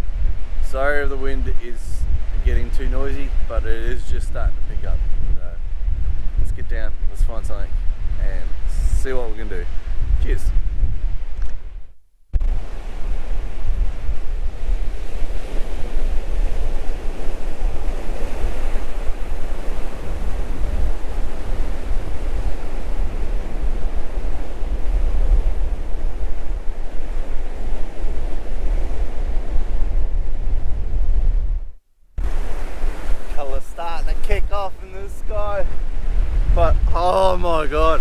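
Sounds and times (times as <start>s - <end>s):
surf waves washing in: 0.0s - 11.4s, 12.4s - 31.4s, 32.2s - 38.0s
wind buffeting microphone: 0.0s - 38.0s.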